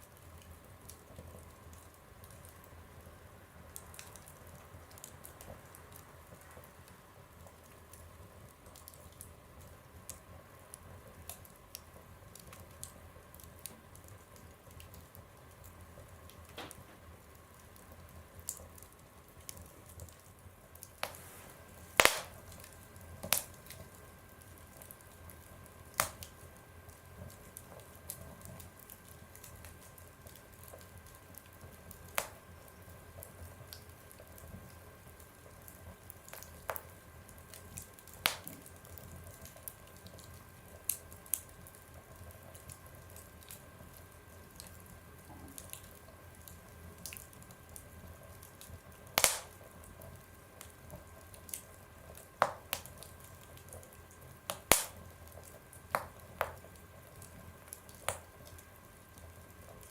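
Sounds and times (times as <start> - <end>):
wood fire crackling in a stove: 0.0 - 59.9.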